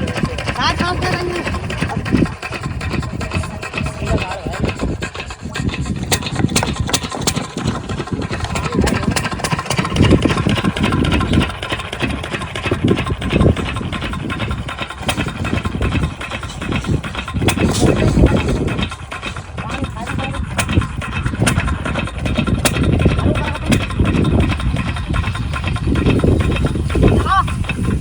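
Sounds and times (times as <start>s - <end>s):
diesel pump engine chugging: 0.0s - 28.0s.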